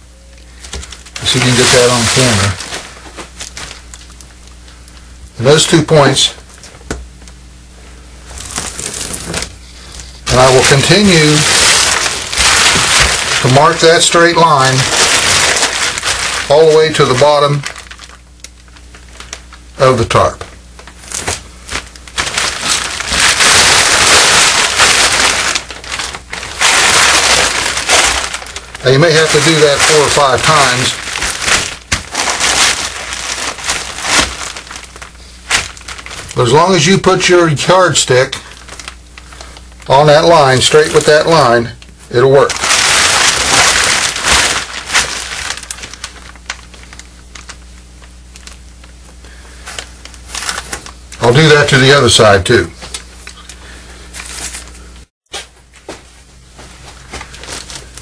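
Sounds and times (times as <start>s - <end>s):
plastic tarp crinkling: 0.5s - 6.4s, 8.2s - 49.0s, 49.6s - 53.5s, 54.1s - 54.8s, 57.0s - 58.0s.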